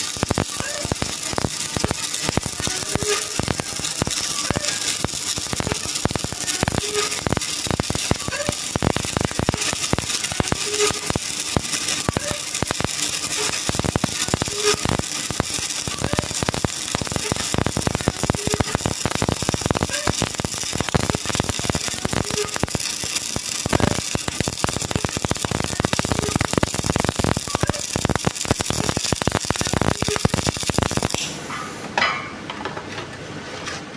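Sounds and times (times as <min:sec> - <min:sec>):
arc welding crackling sizzle: 0:00.0 - 0:31.5.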